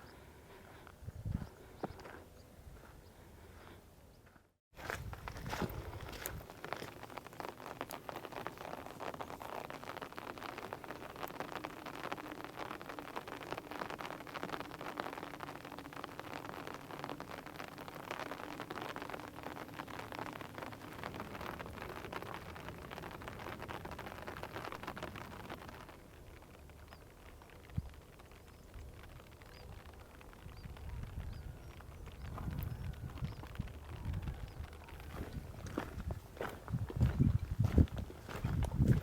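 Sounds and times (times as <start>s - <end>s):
rain pattering on leaves: 4.8s - 39.0s.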